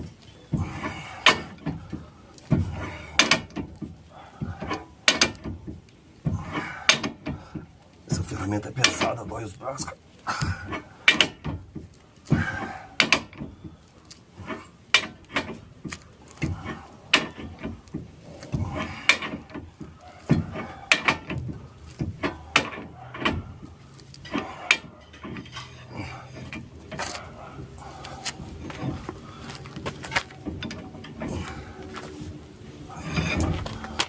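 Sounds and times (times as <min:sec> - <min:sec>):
metallic clanks and knocks: 0:00.0 - 0:09.4, 0:10.3 - 0:13.8, 0:14.4 - 0:32.0, 0:32.9 - 0:34.0.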